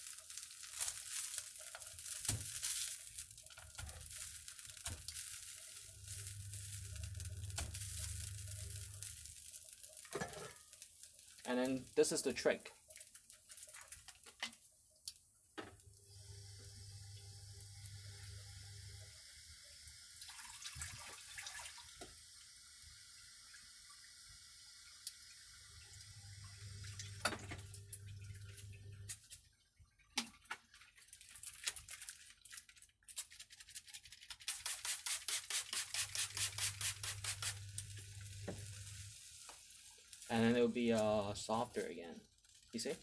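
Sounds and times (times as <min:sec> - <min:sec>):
noodles sizzling in a wok: 0:00.0 - 0:29.4, 0:31.1 - 0:32.7, 0:34.3 - 0:43.0.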